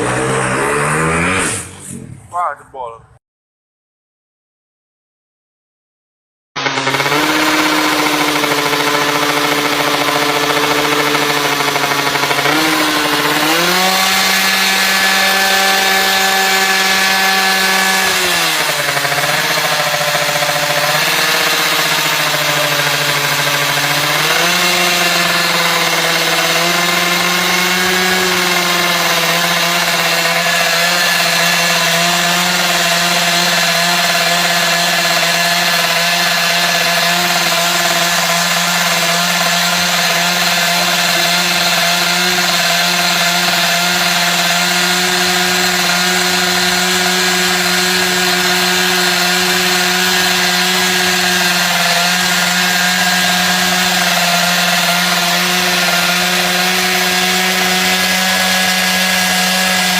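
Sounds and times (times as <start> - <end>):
motorcycle engine revving: 0.0 - 2.3, 6.6 - 59.9.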